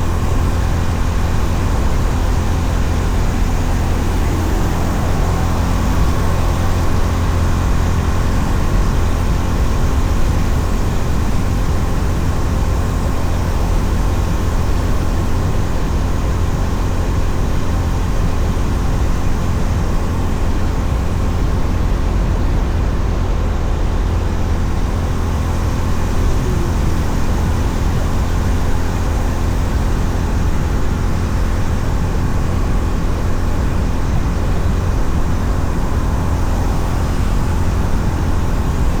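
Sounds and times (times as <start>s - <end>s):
motorcycle engine: 0.0s - 17.0s, 24.6s - 39.0s.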